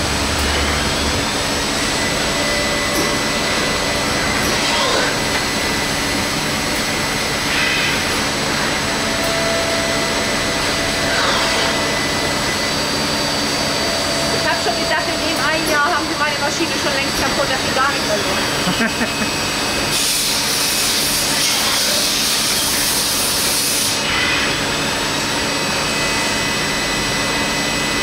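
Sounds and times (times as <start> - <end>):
rising and falling drive whine: 0.0 - 21.4, 22.5 - 28.0
lathe machine whirring: 0.0 - 28.0.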